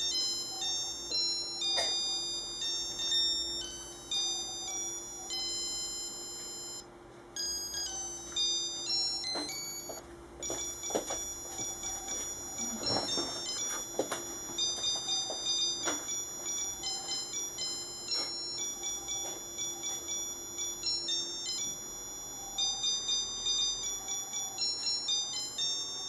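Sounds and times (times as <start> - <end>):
watch beeper playing tune: 0.0 - 26.0.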